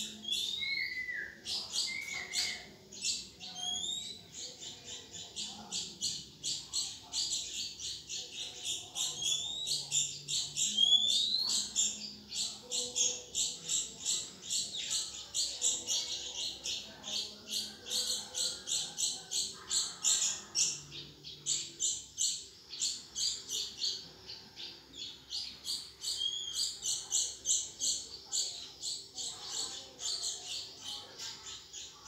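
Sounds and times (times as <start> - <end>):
nestlings begging calls: 0.0 - 32.0.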